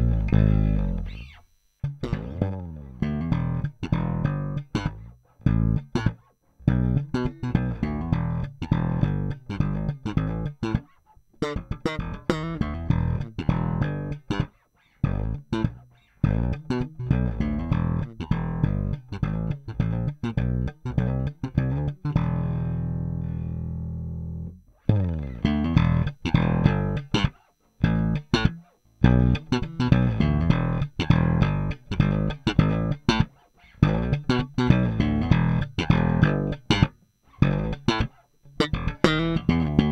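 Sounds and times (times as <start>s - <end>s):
electric bass plucked phrases: 0.0s - 39.9s.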